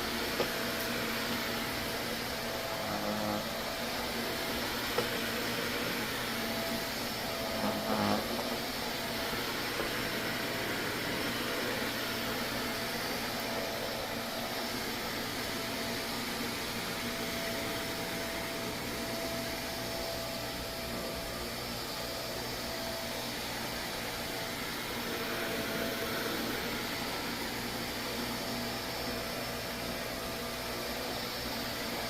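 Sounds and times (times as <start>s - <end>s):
vacuum cleaner whining: 0.0s - 32.0s.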